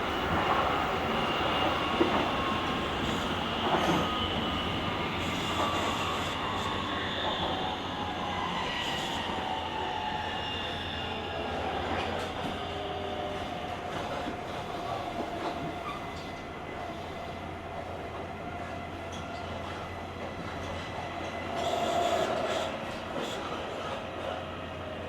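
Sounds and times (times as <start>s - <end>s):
train wheels on rail: 0.0s - 25.0s.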